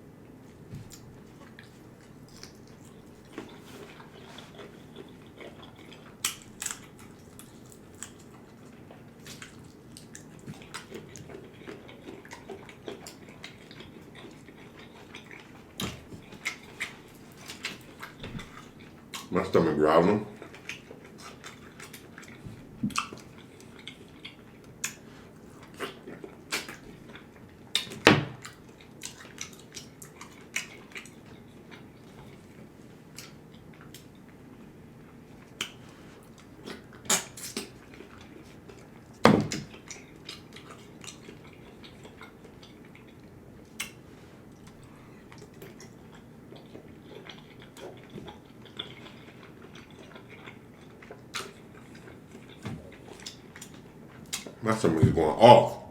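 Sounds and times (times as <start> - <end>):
chewing and wet mouth sounds: 0.3 - 54.9.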